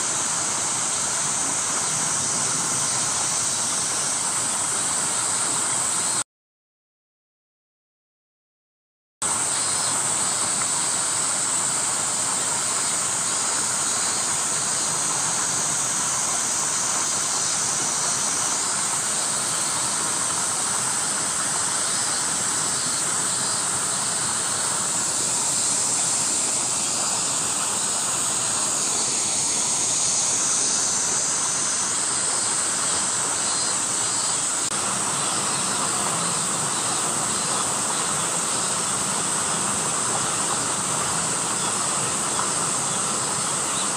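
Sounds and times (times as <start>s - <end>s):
high-pitched hiss: 0.0s - 6.2s, 9.2s - 43.9s.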